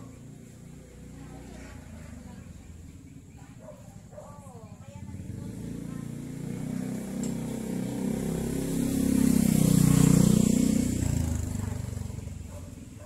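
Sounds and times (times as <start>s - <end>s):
vehicle engine approaching: 0.0s - 13.0s.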